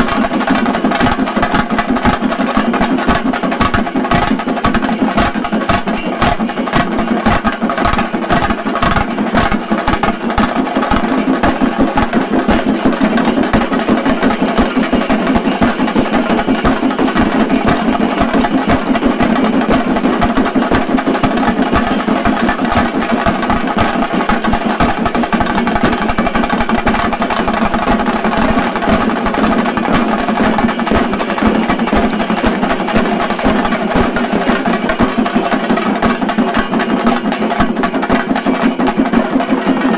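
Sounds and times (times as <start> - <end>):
drums beaten in fast rhythm: 0.0 - 39.9.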